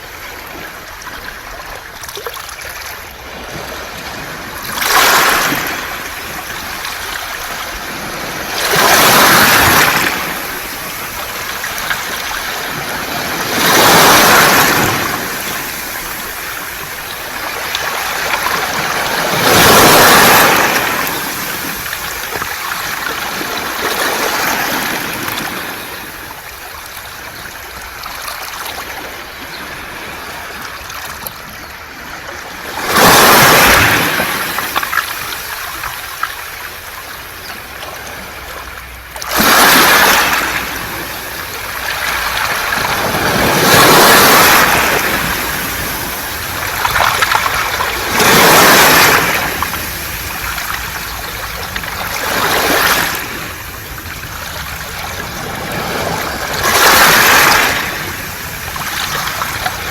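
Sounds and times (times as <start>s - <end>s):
waves washing over pebbles: 0.0s - 59.9s.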